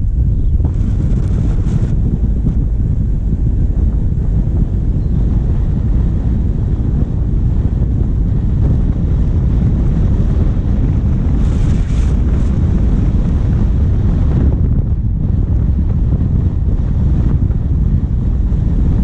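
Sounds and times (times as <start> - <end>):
diesel engine running: 0.0 - 19.0
wind buffeting microphone: 0.0 - 19.0.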